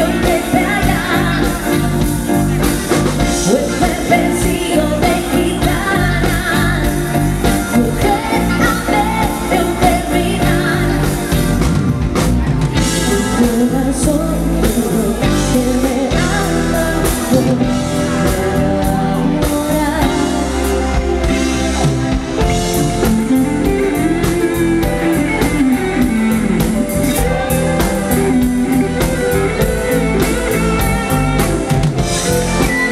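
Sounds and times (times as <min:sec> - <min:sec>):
live pop-rock band playing: 0:00.0 - 0:32.9
woman singing lead: 0:00.0 - 0:32.9.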